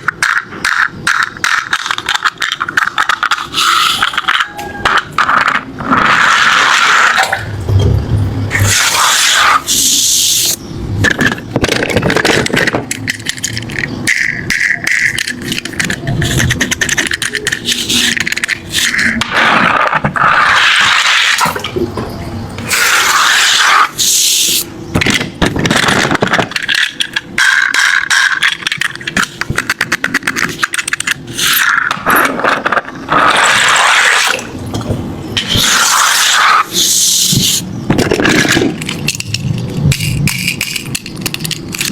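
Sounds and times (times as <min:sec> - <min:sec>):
toy cars rattling and scraping: 0:00.0 - 0:07.5, 0:08.5 - 0:21.6, 0:22.6 - 0:34.6, 0:35.4 - 0:41.9.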